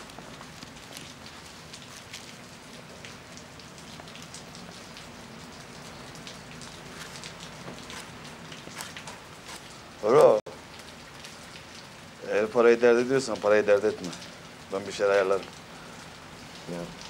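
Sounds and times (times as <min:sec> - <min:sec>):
steady rain: 0:00.0 - 0:17.0
water drips: 0:00.0 - 0:17.0.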